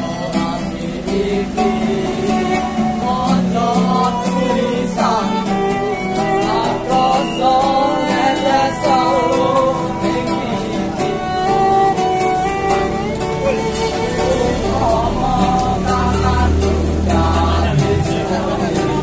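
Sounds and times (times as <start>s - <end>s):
strummed acoustic guitar: 0.0s - 19.0s
violin melody: 0.0s - 19.0s.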